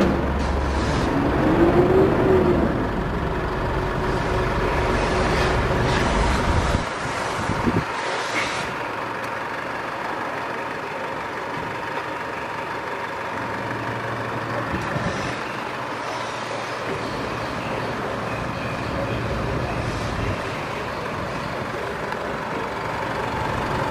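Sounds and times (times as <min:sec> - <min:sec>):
deep engine rumble: 0:00.0 - 0:23.9
traffic hiss: 0:00.2 - 0:23.9.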